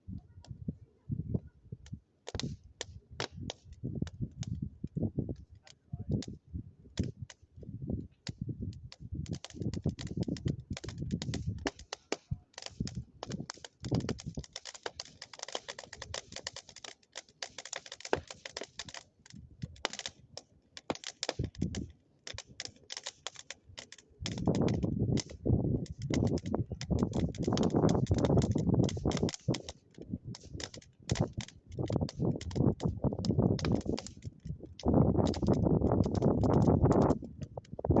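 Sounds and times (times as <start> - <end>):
bonfire crackling and popping: 1.7 - 38.0.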